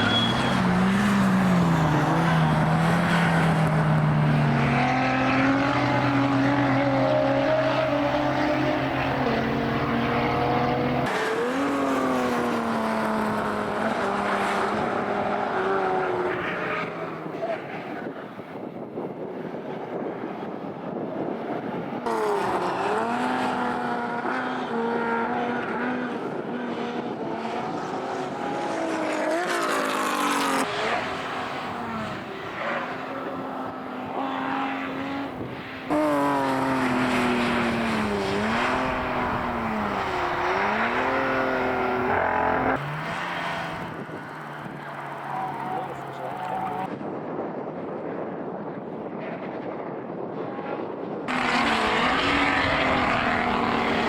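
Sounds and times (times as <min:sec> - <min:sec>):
racing car engines revving: 0:00.0 - 0:19.1, 0:21.4 - 0:46.9, 0:51.3 - 0:54.0.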